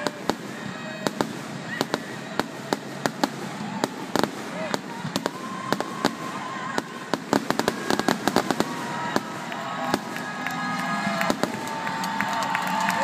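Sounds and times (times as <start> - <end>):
crowd calling: 0.0 - 13.0
fireworks bangs and crackles: 0.0 - 13.0.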